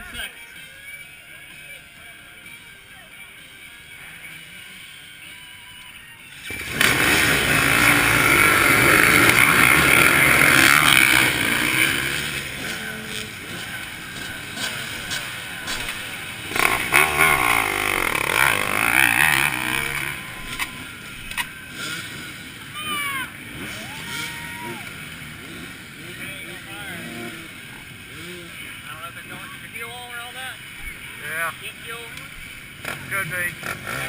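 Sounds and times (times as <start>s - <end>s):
off-road motorcycles revving: 6.3s - 34.0s.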